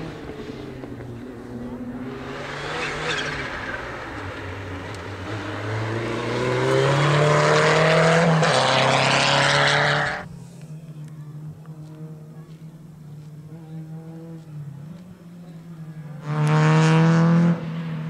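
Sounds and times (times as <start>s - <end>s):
rally car engine at full throttle: 0.0s - 18.0s
tyre and road noise: 0.0s - 18.0s.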